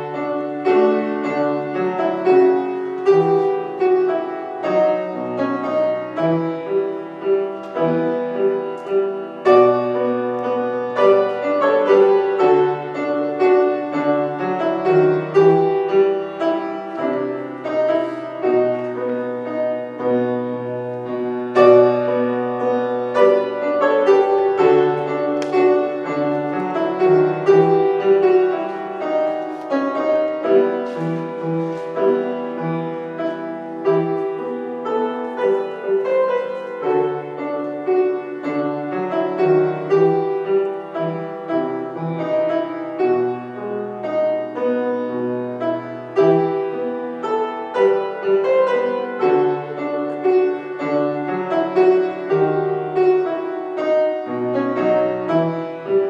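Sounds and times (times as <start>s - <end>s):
grand piano playing chords: 0.0s - 56.0s.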